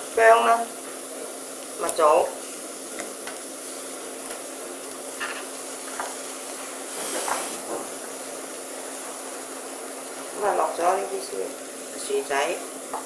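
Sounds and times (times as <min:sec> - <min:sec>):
wok sizzling: 0:00.0 - 0:13.0.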